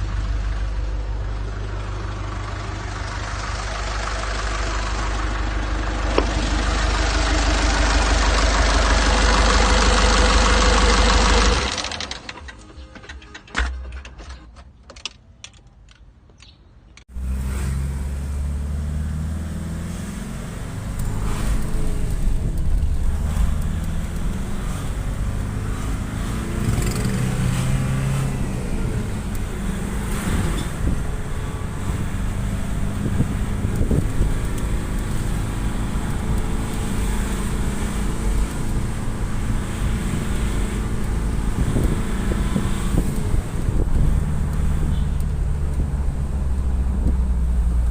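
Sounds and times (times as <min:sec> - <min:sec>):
diesel engine running: 0:00.0 - 0:14.4, 0:17.1 - 0:47.9.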